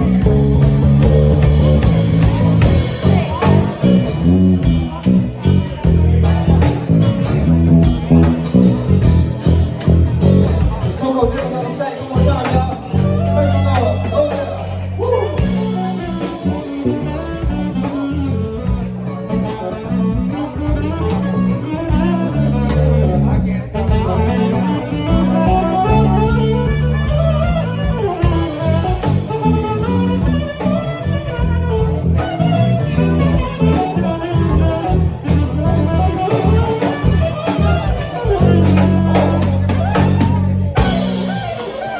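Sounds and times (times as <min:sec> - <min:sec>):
bass guitar low notes: 0:00.0 - 0:41.9
guitar: 0:00.0 - 0:41.9
steady drum beat: 0:00.0 - 0:41.9.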